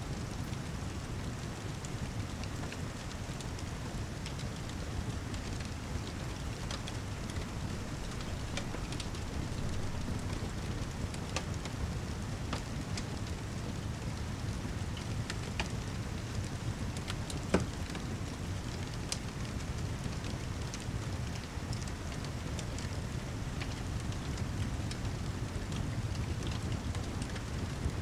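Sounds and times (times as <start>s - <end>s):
steady rain: 0.0s - 28.0s
log fire crackling: 0.1s - 28.0s.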